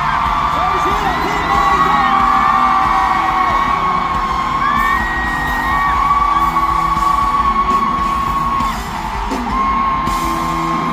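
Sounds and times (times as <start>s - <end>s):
crowd roar: 0.0s - 10.9s
fans screaming: 0.0s - 10.9s.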